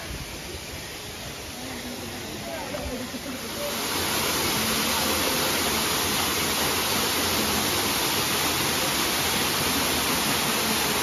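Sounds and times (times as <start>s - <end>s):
waterfall pouring into a pool: 0.0s - 11.0s.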